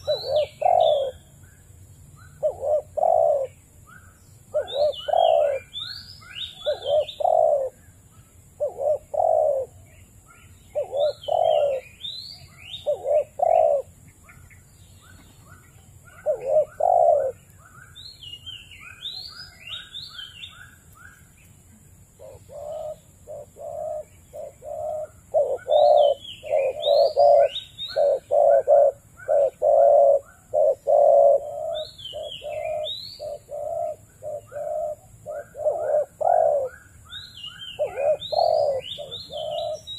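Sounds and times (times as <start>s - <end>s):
dove cooing: 0.0s - 1.4s, 2.2s - 7.8s, 8.5s - 10.0s, 10.7s - 12.1s, 12.7s - 14.5s, 15.1s - 39.9s
small bird chirping and ticking: 0.0s - 39.9s.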